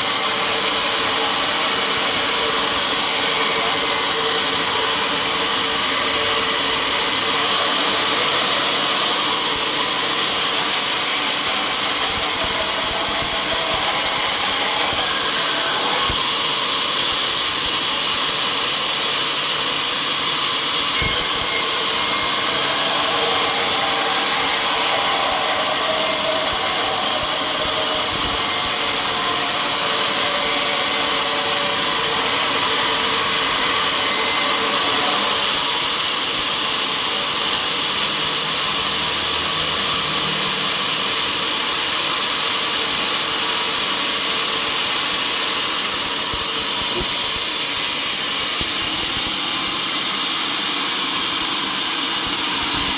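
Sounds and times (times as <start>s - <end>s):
sawmill machinery hissing: 0.0s - 52.9s.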